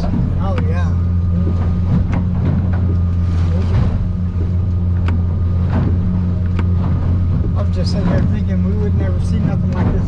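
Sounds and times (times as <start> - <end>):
hull pounding over water: 0.0 - 10.0
outboard motor droning: 0.0 - 10.0.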